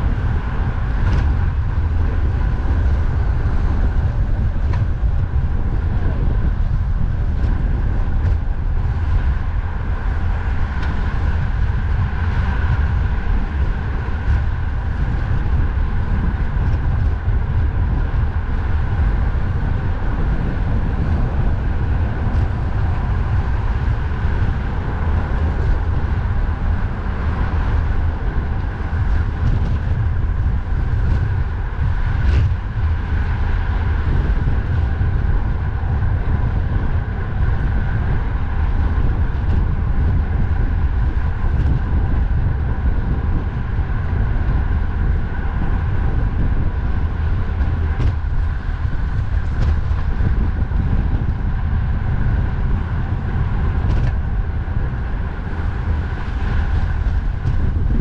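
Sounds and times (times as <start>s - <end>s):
road hum: 0.0s - 58.0s
wind rumbling on microphone: 0.0s - 58.0s.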